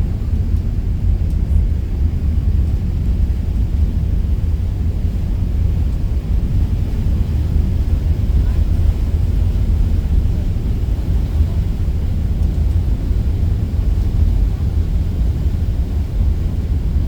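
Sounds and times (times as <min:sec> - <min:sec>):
low rumble of ferry engines: 0:00.0 - 0:17.0.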